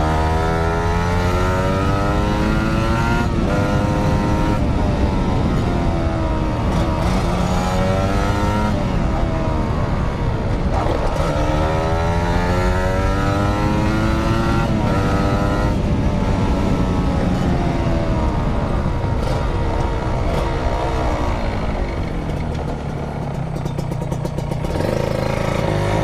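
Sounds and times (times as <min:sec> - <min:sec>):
motorcycle engine accelerating: 0:00.0 - 0:26.0
wind and road noise: 0:00.0 - 0:26.0.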